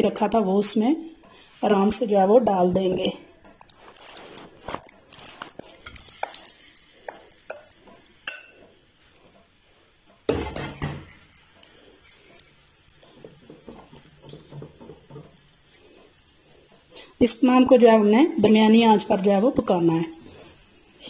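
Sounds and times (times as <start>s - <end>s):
wooden spatula scraping pan: 0.5s - 21.0s.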